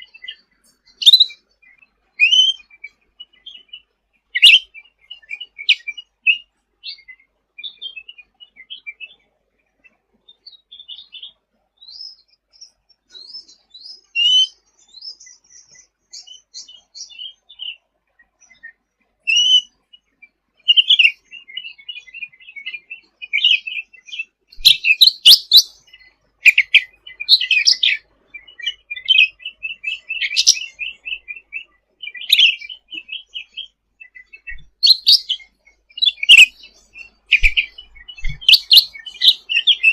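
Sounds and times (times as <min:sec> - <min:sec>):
bird chirping and trilling: 0:00.0 - 0:09.2, 0:09.8 - 0:39.9.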